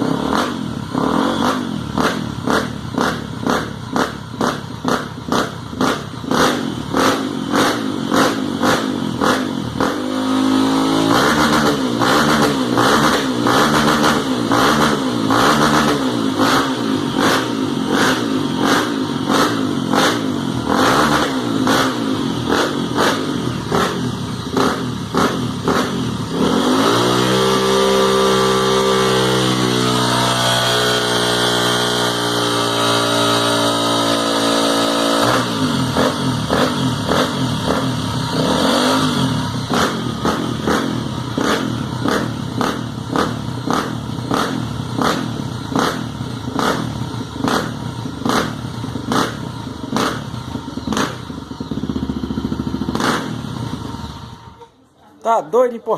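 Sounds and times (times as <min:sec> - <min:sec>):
motorcycle engine revving: 0:00.0 - 0:54.8.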